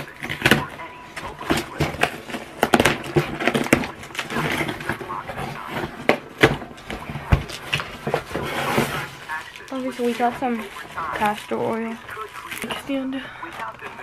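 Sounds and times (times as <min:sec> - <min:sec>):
faint voices: 0:00.0 - 0:14.0
objects clicking and rustling: 0:00.0 - 0:14.0.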